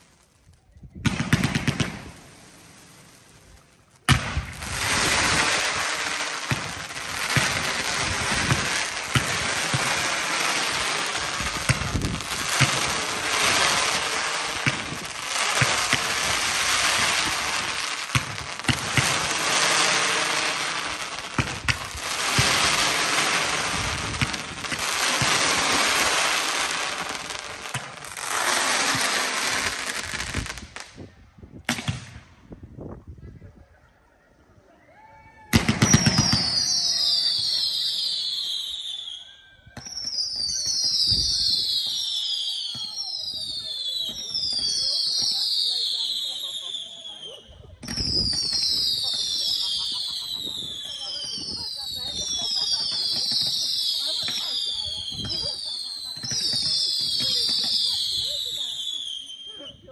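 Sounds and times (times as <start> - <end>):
firework crackling with pops: 0.0 - 32.9, 35.5 - 59.9.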